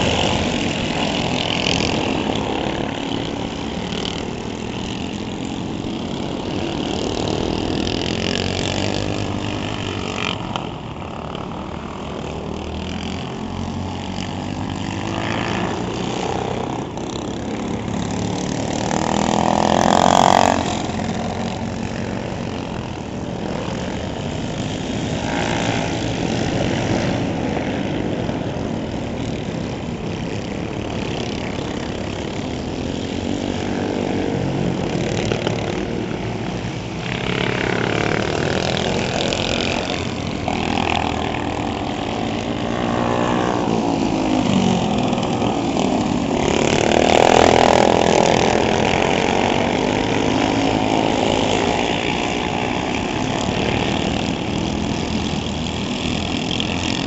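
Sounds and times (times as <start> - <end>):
racing kart engines passing by: 0.0 - 57.0.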